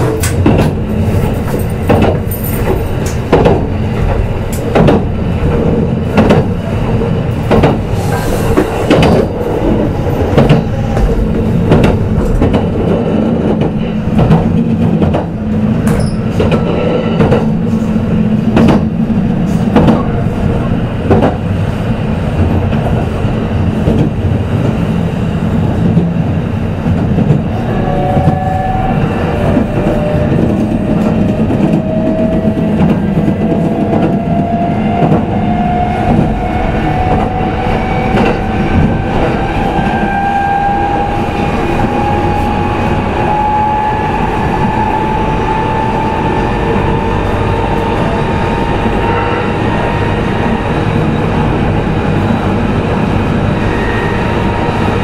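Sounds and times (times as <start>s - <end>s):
wheel and rail rumble: 0.0s - 55.0s.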